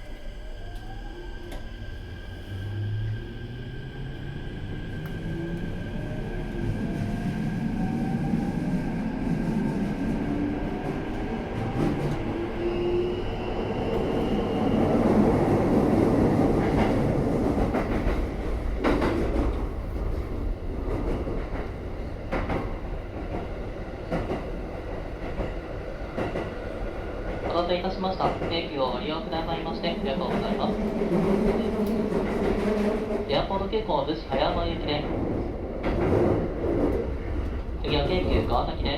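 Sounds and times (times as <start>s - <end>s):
train rolling rumble: 0.0s - 38.9s.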